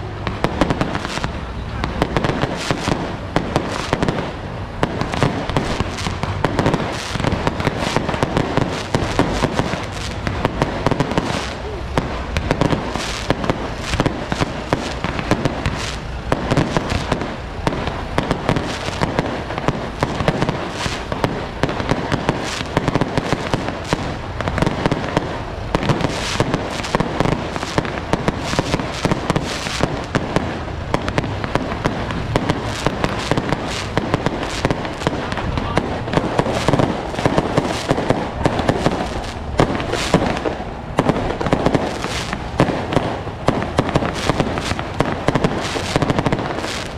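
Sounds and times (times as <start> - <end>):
firecrackers banging: 0.0 - 46.9.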